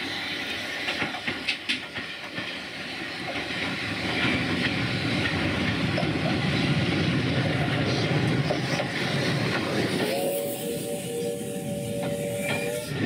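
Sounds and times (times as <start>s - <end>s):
steam hissing: 0.0s - 13.0s
steam locomotive passing: 0.0s - 13.0s.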